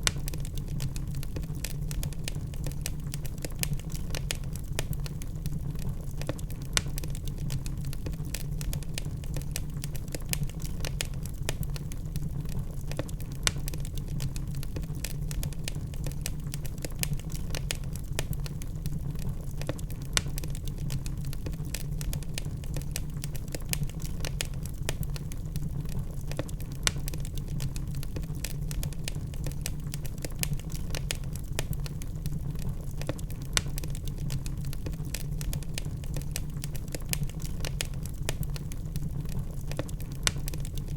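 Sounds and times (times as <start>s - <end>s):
logs crackling in fire: 0.0s - 40.9s.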